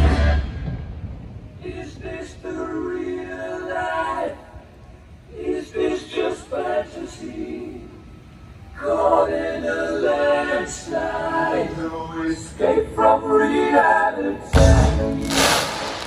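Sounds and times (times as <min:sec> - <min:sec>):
choir vocal harmonies: 0:00.0 - 0:00.8, 0:01.6 - 0:16.0.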